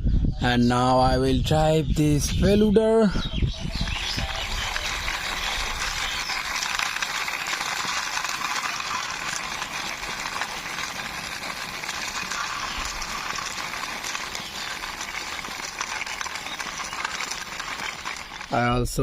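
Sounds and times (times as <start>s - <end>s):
toy vehicle wheels rolling: 3.7s - 19.0s.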